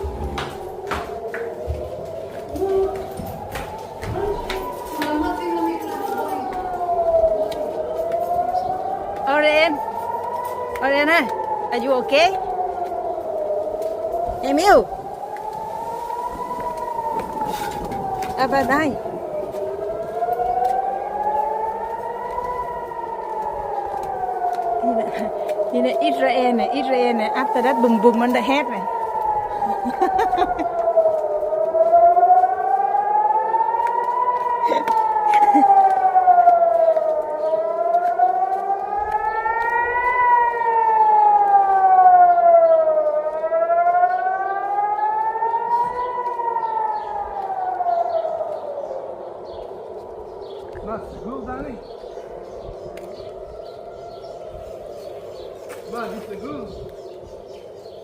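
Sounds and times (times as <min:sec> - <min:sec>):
siren wailing: 0:00.0 - 0:58.0.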